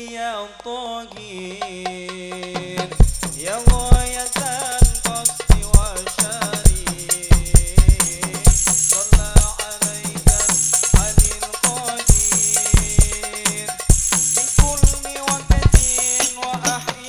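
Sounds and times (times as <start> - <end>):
frame drums hand strikes: 2.6 - 17.0
tambourine jingles: 3.0 - 17.0.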